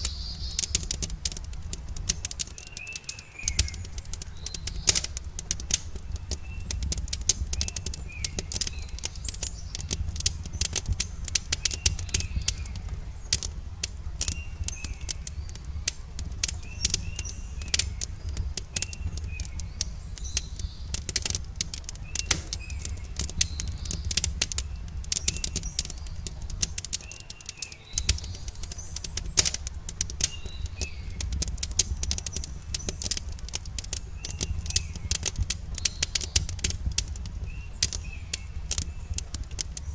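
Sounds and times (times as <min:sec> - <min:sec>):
campfire crackling and popping: 0:00.0 - 0:39.9
small birds chirping: 0:00.0 - 0:39.9.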